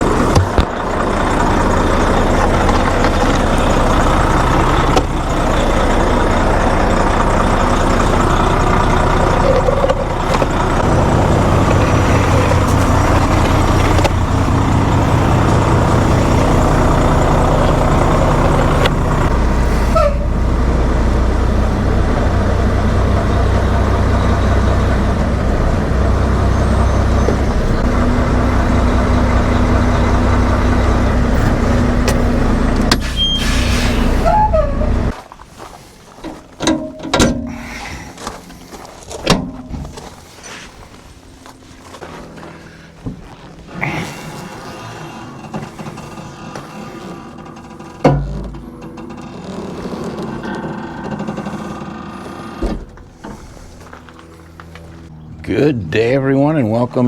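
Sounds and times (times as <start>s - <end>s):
truck diesel engine droning: 0.0s - 57.0s.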